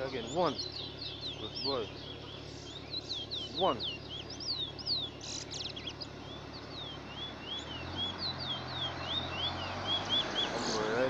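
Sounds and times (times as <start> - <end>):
finch whistled song: 0.0 - 11.0.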